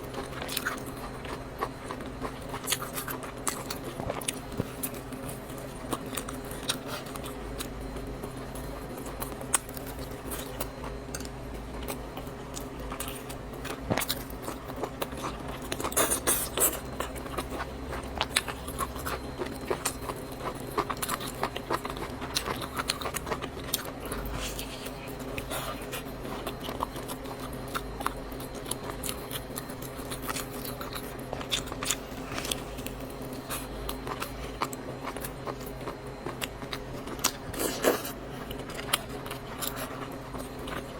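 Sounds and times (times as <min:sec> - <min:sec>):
chewing: 0:00.0 - 0:40.9
steady low hum: 0:00.0 - 0:40.9.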